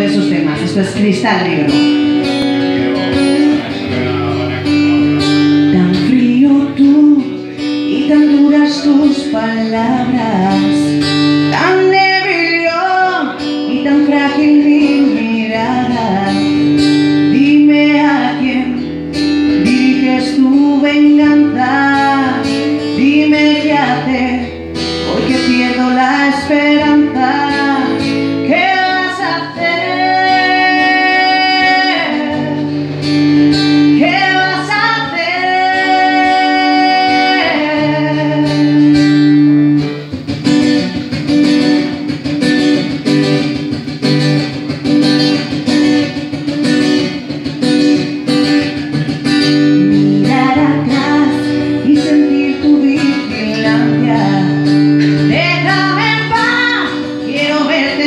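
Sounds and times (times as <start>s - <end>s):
woman singing: 0.0s - 2.4s, 5.6s - 40.0s, 45.8s - 58.0s
acoustic guitar: 0.0s - 58.0s.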